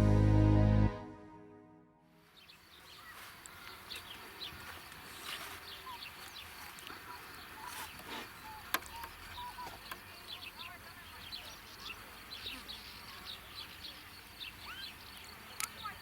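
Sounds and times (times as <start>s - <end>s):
light steady hiss: 2.2s - 16.0s
small birds chirping: 2.3s - 16.0s.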